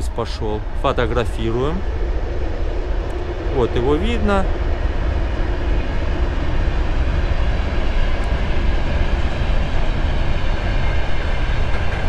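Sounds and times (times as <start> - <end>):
freight train passing: 0.0 - 12.0.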